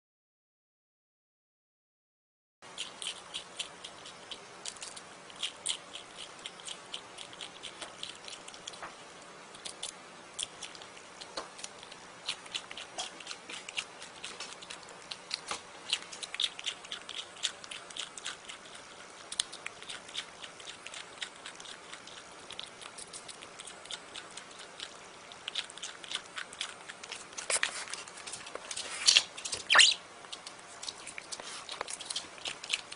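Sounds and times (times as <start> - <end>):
animal chewing cucumber: 2.6 - 32.9.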